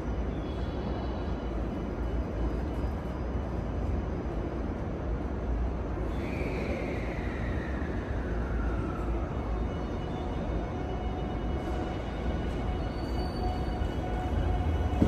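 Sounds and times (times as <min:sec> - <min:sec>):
electric train humming at platform: 0:00.0 - 0:15.0.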